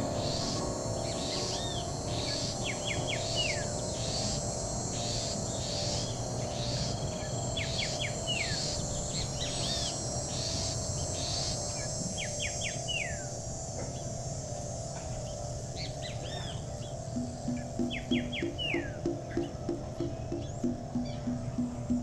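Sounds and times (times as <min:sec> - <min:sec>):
arched bird calls: 0:00.0 - 0:13.2, 0:15.8 - 0:22.0
insect chirring: 0:00.0 - 0:22.0
low steady hum: 0:00.0 - 0:22.0
songbird singing: 0:00.0 - 0:22.0.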